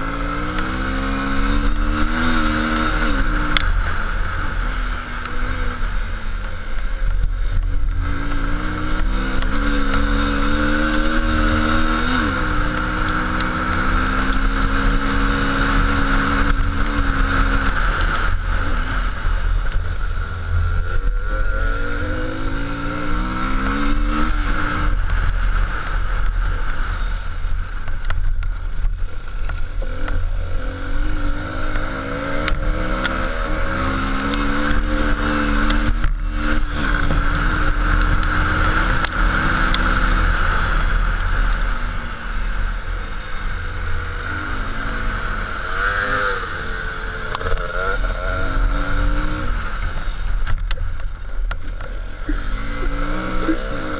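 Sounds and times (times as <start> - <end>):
low road rumble: 0.0 - 53.9
vehicle engine running: 0.0 - 53.9.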